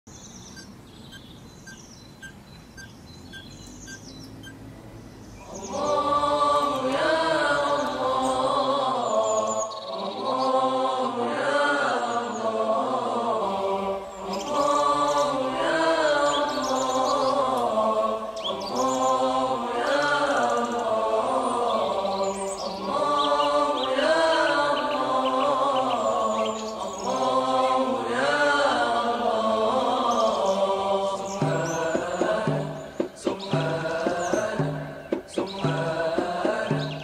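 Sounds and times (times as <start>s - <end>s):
birds chirping: 0.0s - 11.2s, 11.8s - 37.0s
unaccompanied vocal chant: 5.2s - 37.0s.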